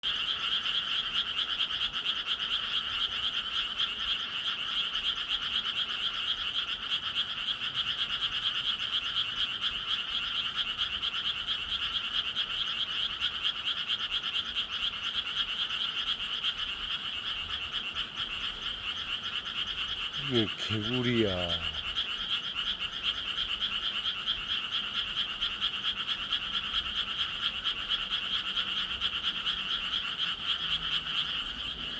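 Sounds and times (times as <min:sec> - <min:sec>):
chorus of frogs croaking: 0:00.0 - 0:31.9.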